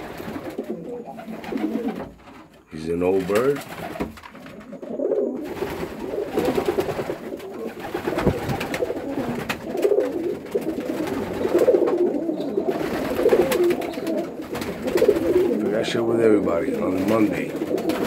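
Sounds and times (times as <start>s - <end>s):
pigeons cooing: 0.0s - 2.2s, 3.8s - 18.0s.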